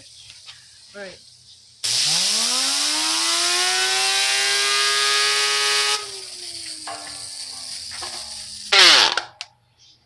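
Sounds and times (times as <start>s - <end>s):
compressed air hissing: 0.0s - 9.4s
fidget spinner whining: 0.0s - 9.5s.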